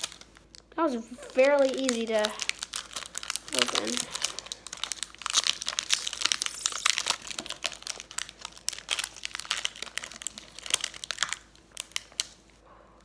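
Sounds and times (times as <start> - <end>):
foil wrapper crinkling: 0.0 - 12.5.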